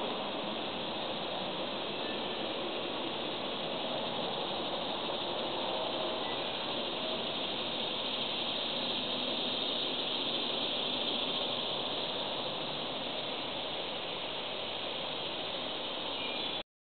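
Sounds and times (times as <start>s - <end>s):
high-pitched insect chorus: 0.0s - 16.6s.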